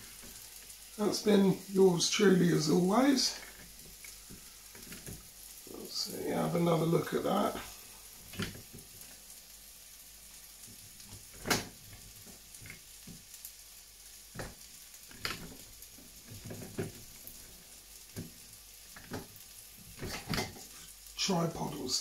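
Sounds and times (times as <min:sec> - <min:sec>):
stir-fry sizzling in a wok: 0:00.0 - 0:22.0.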